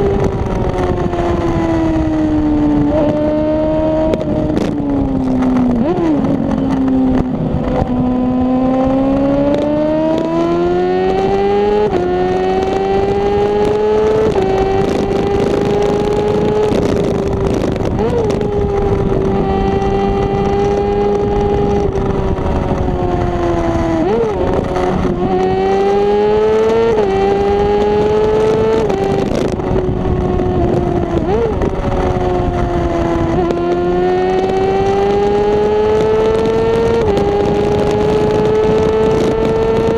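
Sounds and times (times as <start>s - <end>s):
gear changes: 0.0s - 39.9s
motorcycle engine revving: 0.0s - 39.9s.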